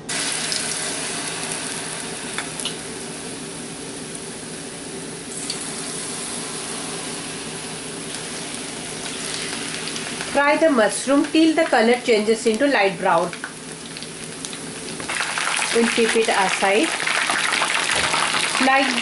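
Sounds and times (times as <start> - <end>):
deep-frying sizzle with pops: 0.0 - 19.0.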